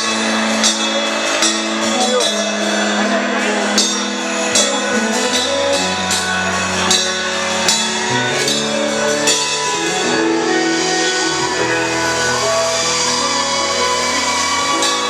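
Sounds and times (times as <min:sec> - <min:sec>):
bass notes: 0:00.0 - 0:15.0
drums keeping steady beat: 0:00.0 - 0:15.0
guitar and keyboard chords: 0:00.0 - 0:15.0.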